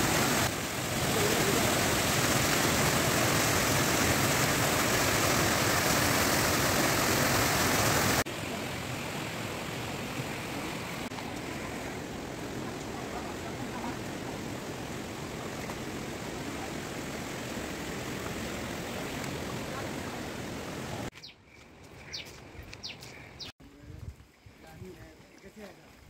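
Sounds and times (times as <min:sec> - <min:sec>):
waterfall and stream rushing: 0:00.0 - 0:21.1.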